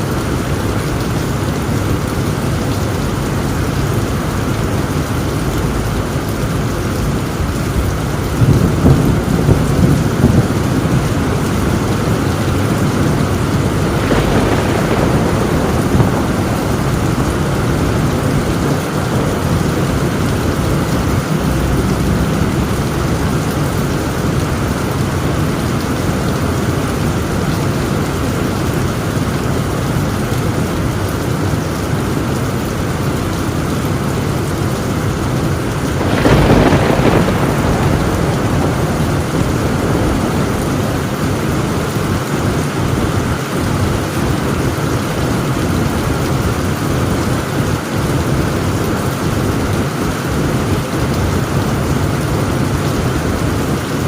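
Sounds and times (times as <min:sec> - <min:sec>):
heavy rain on a tin roof: 0:00.0 - 0:54.0
thunder rolling: 0:00.0 - 0:54.0.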